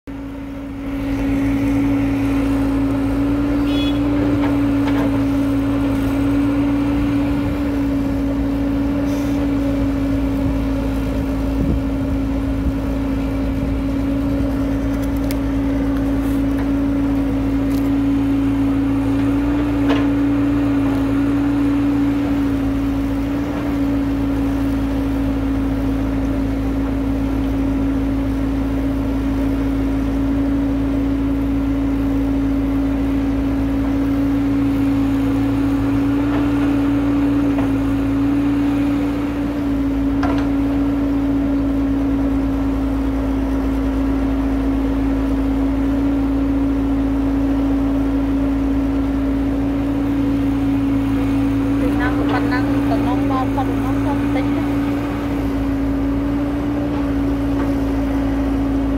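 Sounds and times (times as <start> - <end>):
excavator diesel engine running: 0.1 - 58.9.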